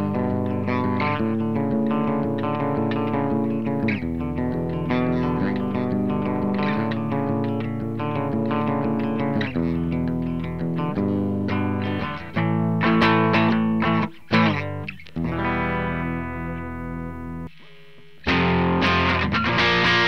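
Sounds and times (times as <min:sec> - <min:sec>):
distorted electric guitar: 0:00.0 - 0:20.0.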